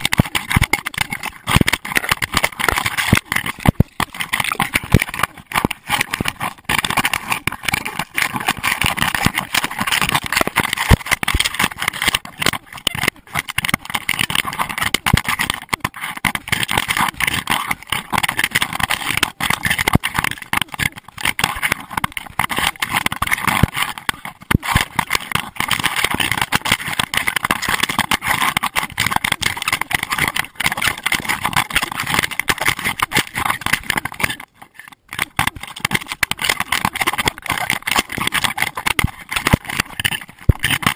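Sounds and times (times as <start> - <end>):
camera housing rubbing and knocking: 0.0 - 40.9.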